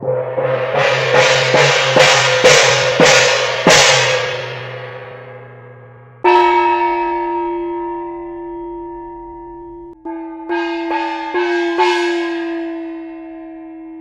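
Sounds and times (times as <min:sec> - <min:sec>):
gongs and cymbals crashing: 0:00.0 - 0:08.9, 0:10.1 - 0:13.3
pitched gong ringing: 0:00.0 - 0:13.4.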